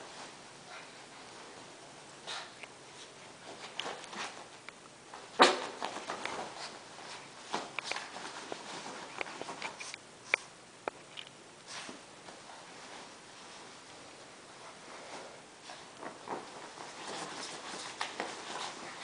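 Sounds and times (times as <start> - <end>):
bedsheets rustling: 0.0 - 10.0, 11.6 - 19.0.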